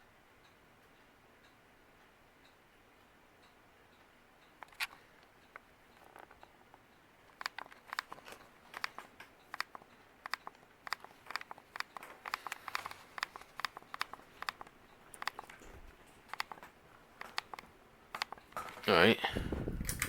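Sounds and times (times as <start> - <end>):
ceiling fan clicking: 0.0 - 20.0.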